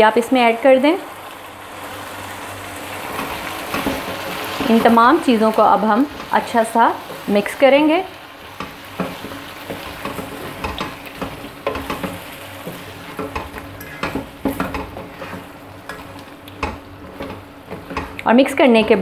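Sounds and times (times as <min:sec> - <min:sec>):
gravy sizzling: 0:00.0 - 0:19.0
spatula scraping frying pan: 0:03.0 - 0:19.0.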